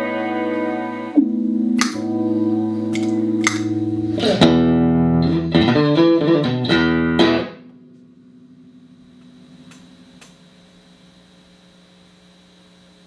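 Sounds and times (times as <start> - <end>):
clean electric guitar chords: 0.0 - 10.6
faint amplifier hum: 0.0 - 13.0.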